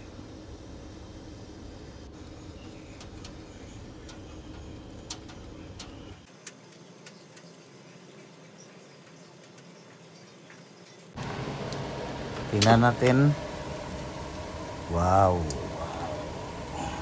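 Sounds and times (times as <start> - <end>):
rotisserie oven humming: 0.0 - 17.0.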